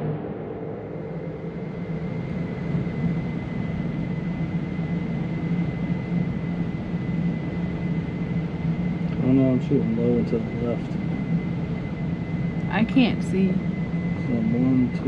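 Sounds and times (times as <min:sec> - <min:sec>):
ventilation rumble: 0:00.0 - 0:15.0.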